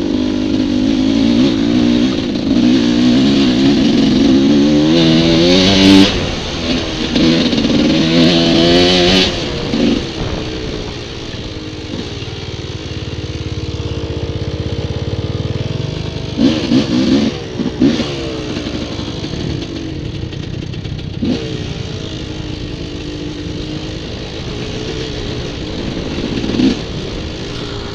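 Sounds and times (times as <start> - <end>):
quad bike engine revving: 0.0 - 27.9.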